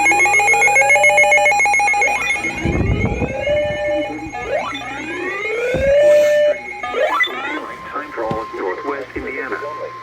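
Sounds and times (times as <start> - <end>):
rapidly pulsing beep: 0.0 - 10.0
whooping alarm tone: 0.0 - 10.0.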